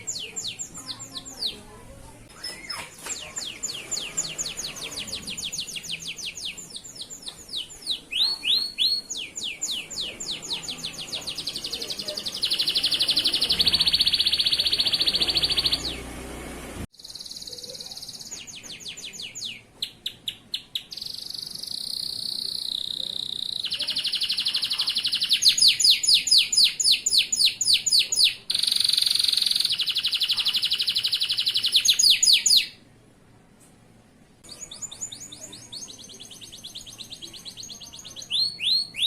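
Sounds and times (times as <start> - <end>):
canary singing trills: 0.0 - 16.3, 17.0 - 32.8, 34.4 - 39.0.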